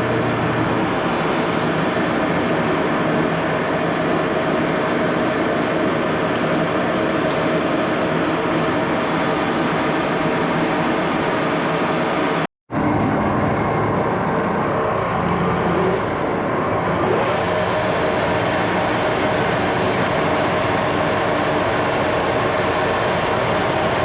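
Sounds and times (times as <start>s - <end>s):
machine tool droning: 0.0s - 12.1s, 12.7s - 24.0s.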